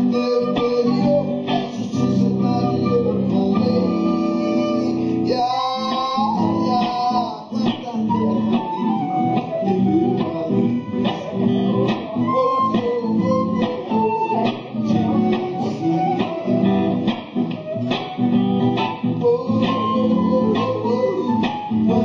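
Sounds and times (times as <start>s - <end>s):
guitar playing steady rhythm: 0.0s - 22.0s
live band music: 0.0s - 22.0s.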